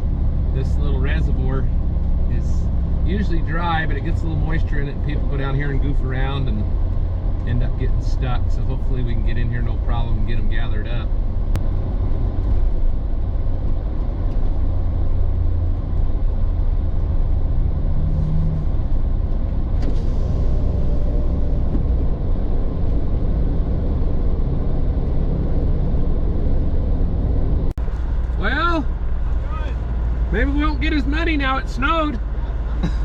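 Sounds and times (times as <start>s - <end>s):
truck engine and road rumble: 0.0s - 33.0s.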